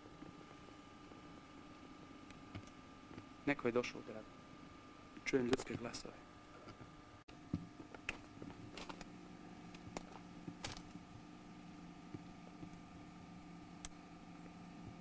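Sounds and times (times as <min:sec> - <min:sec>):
camcorder mechanism hum: 0:00.0 - 0:15.0.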